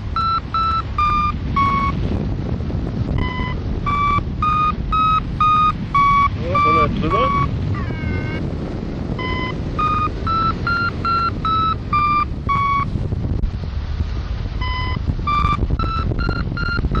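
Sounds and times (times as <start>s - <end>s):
variometer beeping: 0.0s - 2.1s, 3.1s - 8.5s, 9.1s - 13.0s, 14.6s - 17.0s
wind rushing over microphone: 0.0s - 17.0s.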